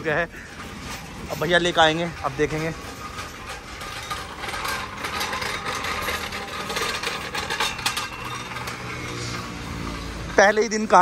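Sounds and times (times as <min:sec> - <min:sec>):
metal rubbing: 0:00.0 - 0:11.0
hand tool ratcheting: 0:00.4 - 0:10.1.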